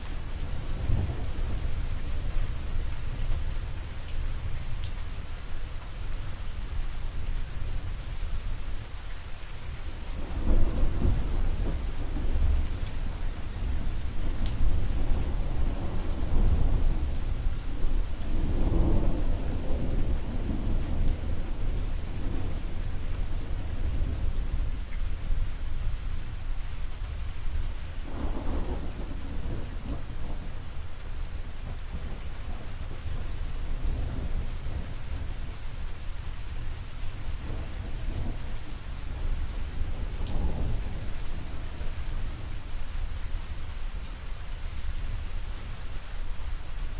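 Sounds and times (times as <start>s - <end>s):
thunder rumbling: 0.0s - 4.0s, 10.0s - 45.8s
steady rainfall: 0.0s - 46.9s.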